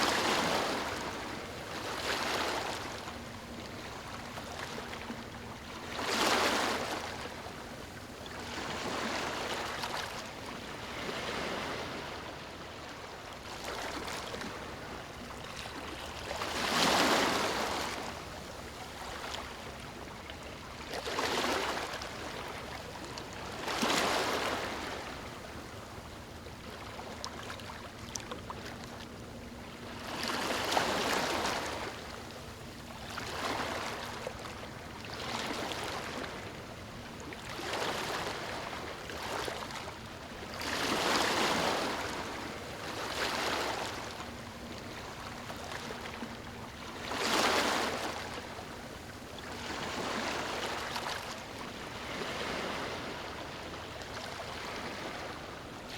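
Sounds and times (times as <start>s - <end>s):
small waves lapping on beach: 0.0s - 55.9s.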